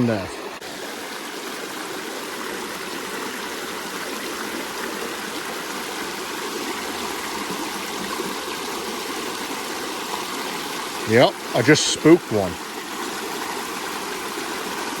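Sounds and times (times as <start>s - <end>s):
brook water running over rocks: 0.0s - 15.0s.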